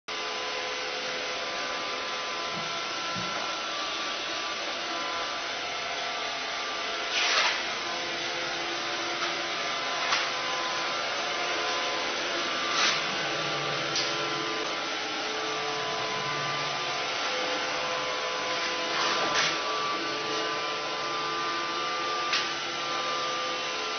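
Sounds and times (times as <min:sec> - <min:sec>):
robot vacuum running: 0:00.8 - 0:23.9.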